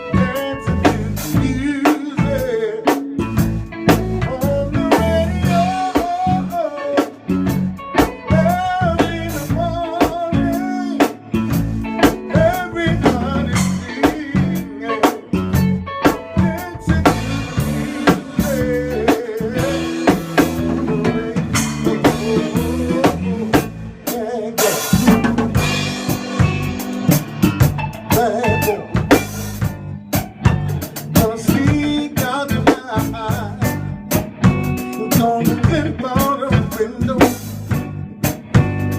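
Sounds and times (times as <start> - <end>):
band playing: 0.0 - 38.9.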